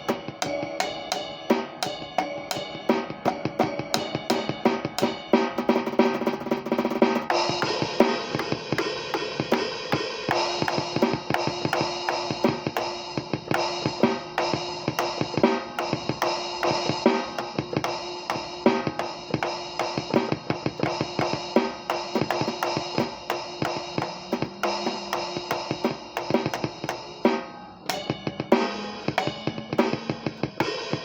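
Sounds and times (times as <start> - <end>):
drum kit playing: 0.0 - 31.0
ringing drum tone: 0.0 - 31.0.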